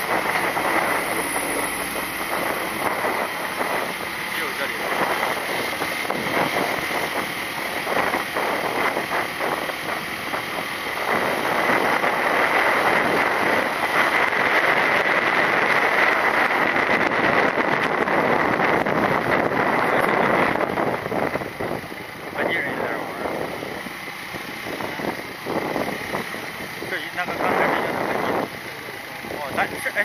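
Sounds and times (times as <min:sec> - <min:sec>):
motorcycle engine running: 0:00.0 - 0:30.0
wind rushing over microphone: 0:00.0 - 0:30.0.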